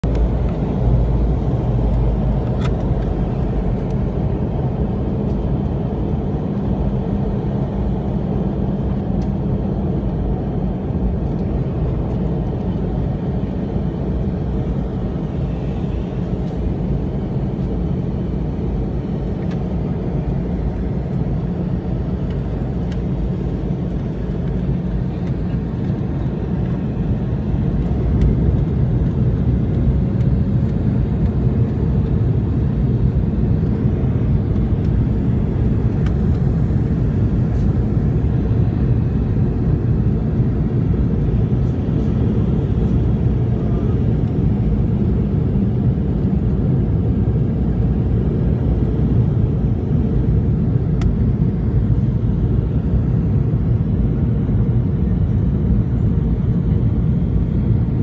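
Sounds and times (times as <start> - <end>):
jet engine roar in cabin: 0.0 - 58.0.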